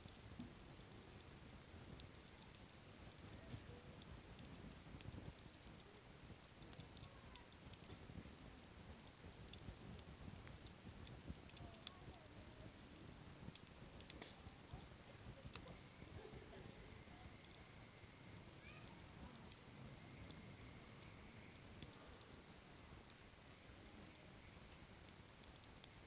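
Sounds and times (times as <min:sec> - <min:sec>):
campfire crackling and popping: 0:00.0 - 0:26.0
flame rustle: 0:00.0 - 0:26.0
light wind: 0:00.0 - 0:26.0.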